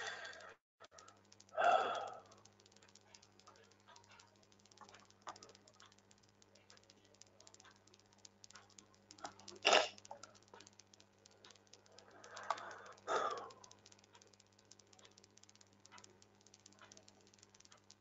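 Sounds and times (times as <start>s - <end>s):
computer keyboard keystrokes: 0.0s - 18.0s
low electrical hum: 0.0s - 18.0s.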